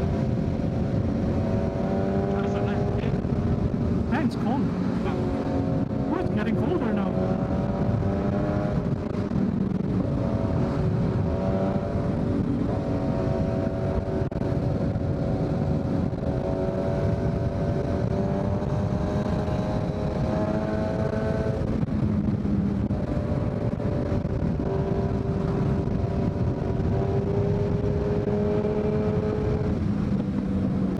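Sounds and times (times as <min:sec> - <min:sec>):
motorcycle engine cruising: 0:00.0 - 0:30.9.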